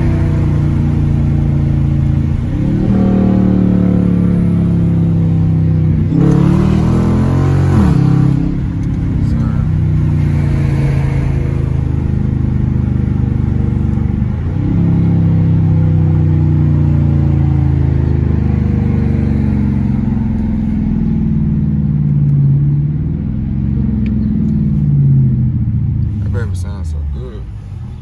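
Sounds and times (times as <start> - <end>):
car exhaust revving: 0.0 - 27.2.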